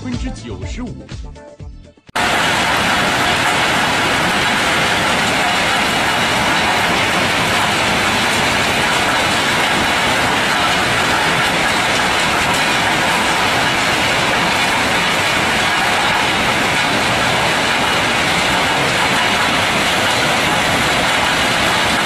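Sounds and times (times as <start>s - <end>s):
stone-crushing machinery rattling: 2.2s - 22.0s.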